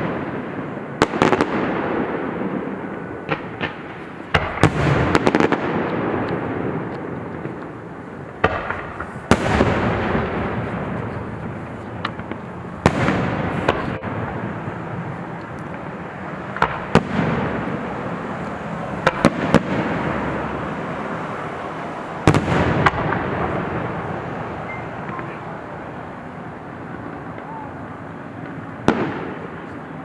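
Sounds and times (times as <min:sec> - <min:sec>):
fireworks bursting with rolling rumble: 0:00.0 - 0:30.0.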